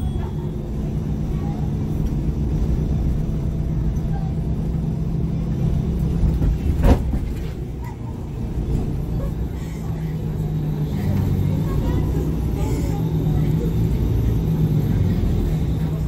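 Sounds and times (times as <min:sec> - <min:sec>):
bus diesel engine idling: 0:00.0 - 0:16.0.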